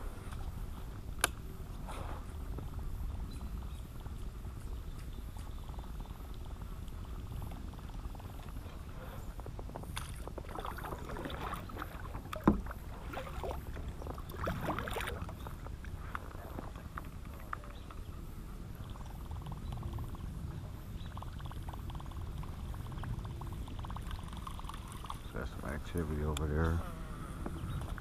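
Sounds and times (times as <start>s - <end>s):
water against a hull: 0.0s - 28.0s.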